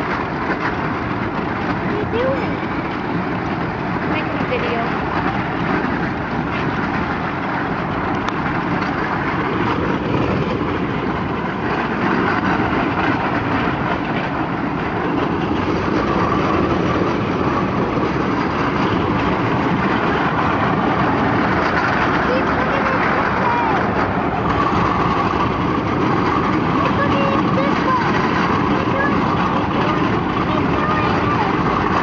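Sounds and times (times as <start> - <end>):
ride-on train rolling: 0.0 - 32.0.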